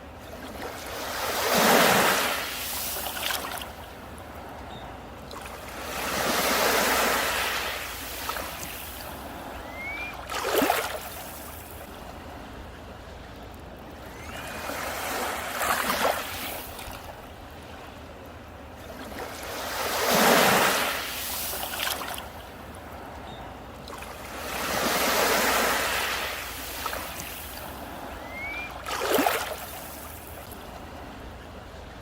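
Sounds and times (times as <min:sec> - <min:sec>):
sea waves breaking: 0:00.0 - 0:32.0.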